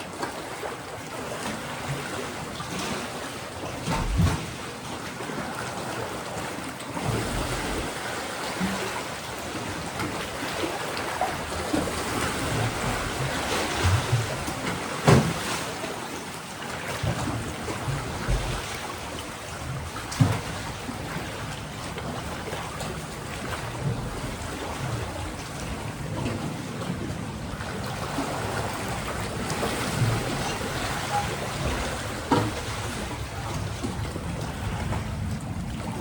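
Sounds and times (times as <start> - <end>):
waves washing on rocky shore: 0.0 - 36.0.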